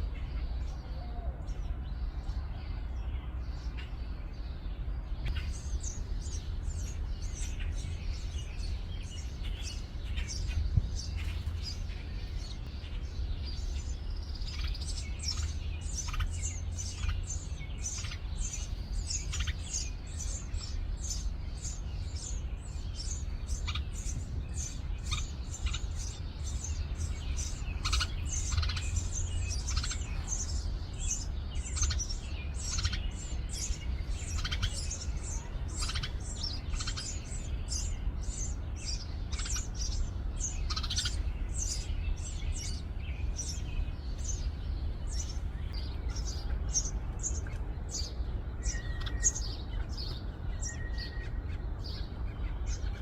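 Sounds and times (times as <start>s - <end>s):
steady low rumble: 0.0s - 53.0s
nestlings chirping: 4.9s - 53.0s.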